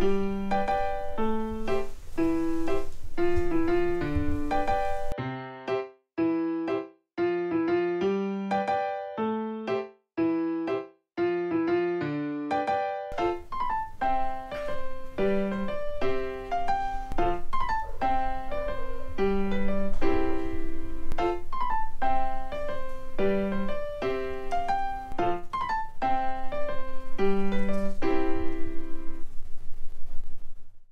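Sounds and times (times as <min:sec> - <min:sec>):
piano melody over low beat: 0:00.0 - 0:29.4.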